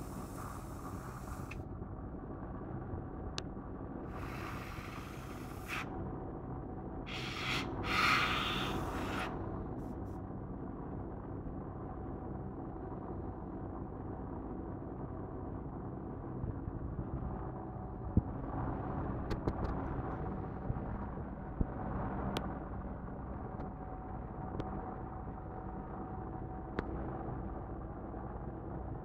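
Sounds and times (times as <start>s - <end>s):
ventilation hum: 0.0s - 29.0s.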